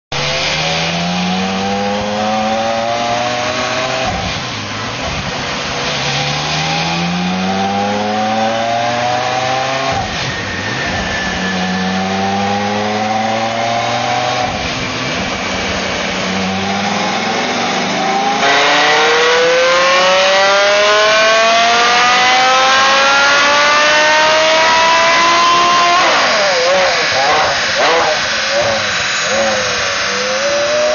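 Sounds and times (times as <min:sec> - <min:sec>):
sports car engine revving: 0:00.2 - 0:30.9.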